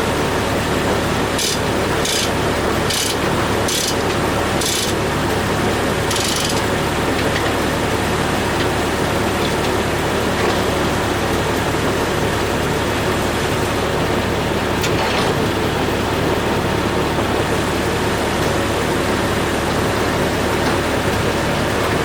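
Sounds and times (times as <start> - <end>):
circle sawmill running: 0.0 - 22.0.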